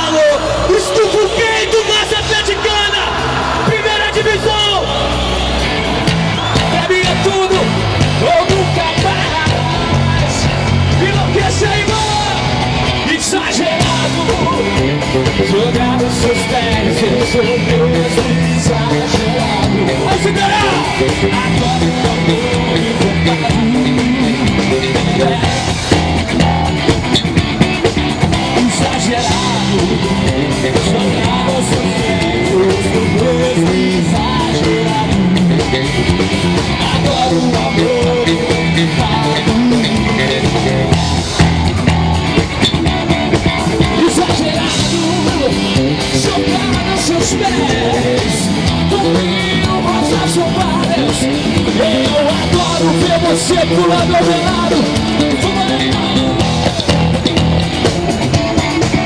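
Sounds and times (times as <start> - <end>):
person singing and yelling: 0.0 - 26.9, 28.1 - 41.5, 43.2 - 57.9
rock band playing: 0.0 - 59.0.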